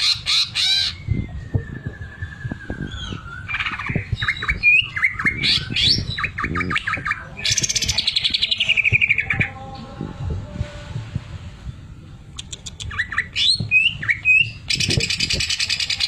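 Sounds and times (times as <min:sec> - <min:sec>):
bird singing varied song: 0:00.0 - 0:10.0, 0:12.4 - 0:16.0.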